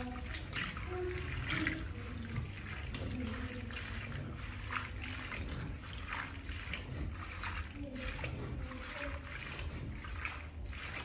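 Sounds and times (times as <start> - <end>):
water sloshing and splashing in a bowl: 0.0 - 11.0.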